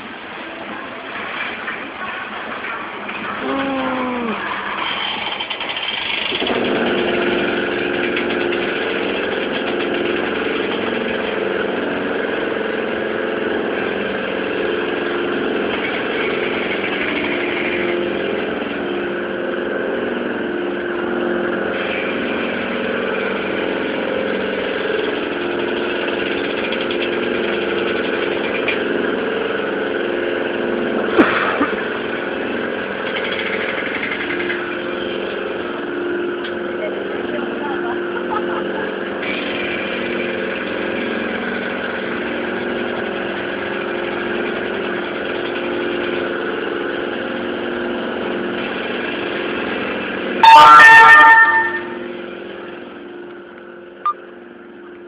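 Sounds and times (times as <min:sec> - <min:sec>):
carousel machinery humming: 0:00.0 - 0:55.0.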